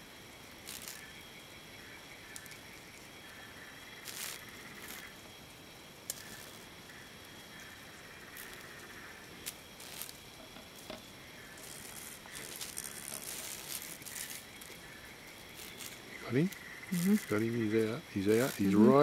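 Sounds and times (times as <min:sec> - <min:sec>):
steady hiss: 0:00.0 - 0:19.0
small clicks and crackles: 0:00.5 - 0:01.2, 0:02.2 - 0:18.8.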